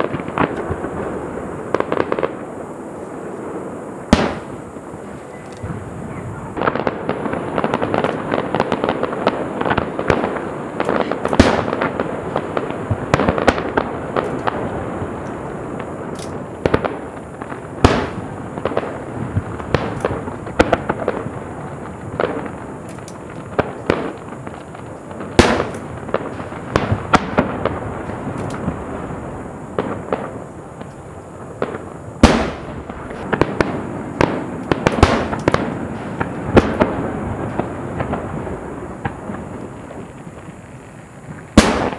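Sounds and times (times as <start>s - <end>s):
fireworks bangs: 0.0s - 41.9s
fireworks crackling: 0.0s - 41.9s.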